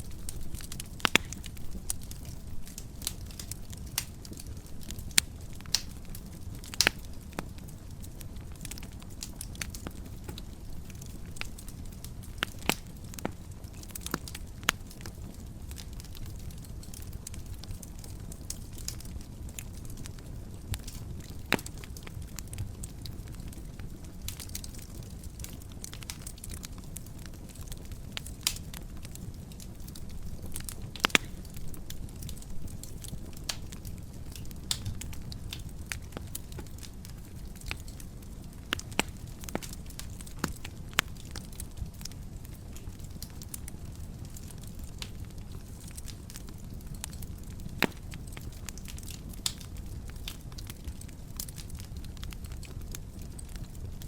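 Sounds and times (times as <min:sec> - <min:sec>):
sharp pops of fire: 0:00.0 - 0:07.7, 0:08.5 - 0:53.6
fire crackling: 0:00.0 - 0:54.0.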